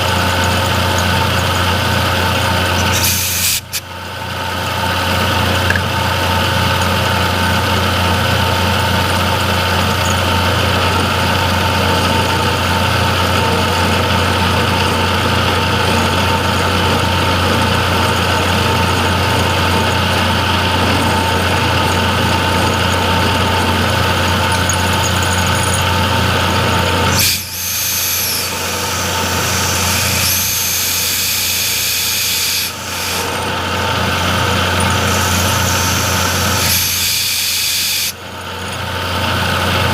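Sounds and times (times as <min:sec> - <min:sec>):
milling machine humming and whining: 0:00.0 - 0:39.9.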